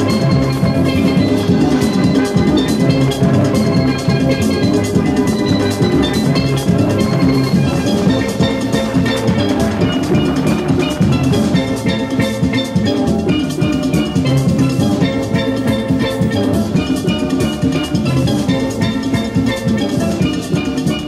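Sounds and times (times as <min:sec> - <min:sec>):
music with drum beat and melody: 0:00.0 - 0:21.0.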